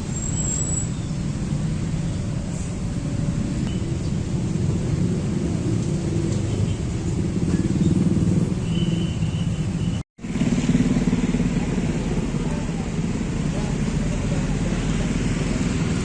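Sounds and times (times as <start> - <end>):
low rumble of vehicle engines: 0.0 - 16.0.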